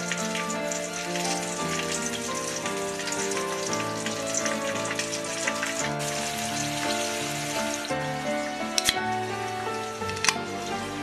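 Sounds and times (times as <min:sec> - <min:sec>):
background music: 0:00.0 - 0:11.0
chicken deep-frying in oil: 0:00.0 - 0:11.0.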